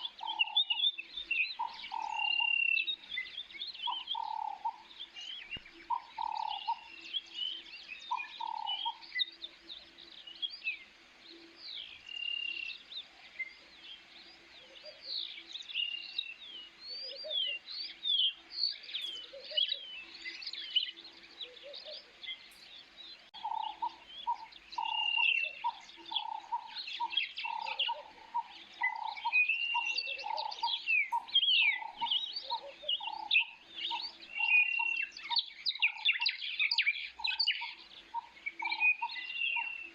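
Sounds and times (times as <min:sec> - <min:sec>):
birds chirping: 0:00.0 - 0:39.9
lower repeated bird call: 0:00.0 - 0:39.9.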